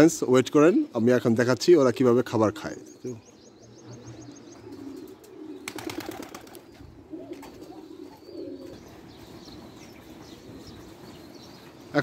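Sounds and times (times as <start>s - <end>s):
pigeons cooing: 2.0s - 11.9s.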